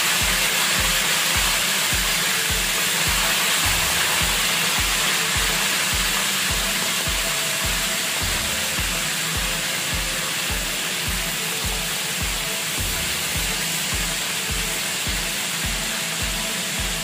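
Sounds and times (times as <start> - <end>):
background music with a beat: 0.0 - 17.0
liver frying in hot oil: 0.0 - 17.0.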